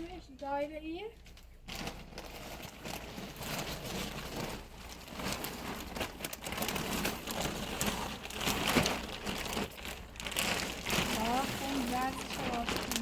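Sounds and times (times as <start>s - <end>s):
plastic sheeting crinkling: 0.0s - 13.0s.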